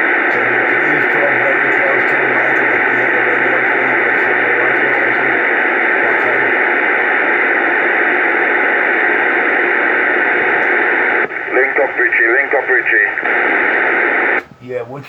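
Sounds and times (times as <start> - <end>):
radio static hiss: 0.0 - 14.4
faint low hum: 0.1 - 15.0.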